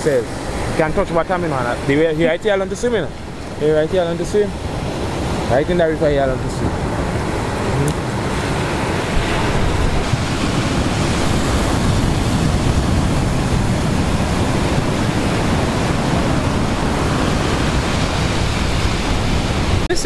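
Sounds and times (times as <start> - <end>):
sea surf breaking on a beach: 0.0 - 20.0
wind on microphone: 0.0 - 20.0.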